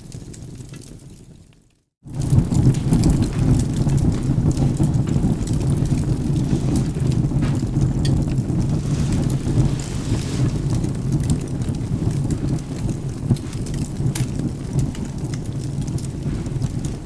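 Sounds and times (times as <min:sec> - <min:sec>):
rain: 0:00.0 - 0:17.0
wood fire crackling: 0:00.0 - 0:17.0
low rumble of thunder: 0:02.1 - 0:17.0.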